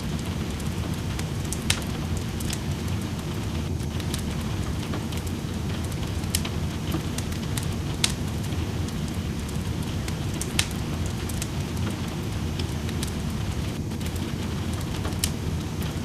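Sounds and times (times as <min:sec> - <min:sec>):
rain: 0:00.0 - 0:16.0
wood fire crackling: 0:00.0 - 0:16.0.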